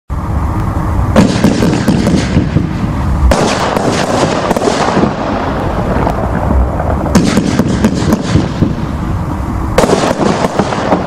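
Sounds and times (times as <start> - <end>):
firework reports: 0.1 - 11.0
low rumble: 0.1 - 11.0
crackling firework pops: 0.6 - 8.9, 9.8 - 11.0.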